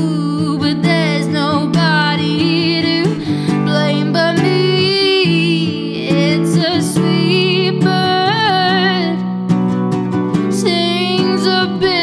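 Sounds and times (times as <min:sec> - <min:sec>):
woman singing: 0:00.0 - 0:09.6, 0:10.3 - 0:12.0
acoustic guitar: 0:00.0 - 0:12.0.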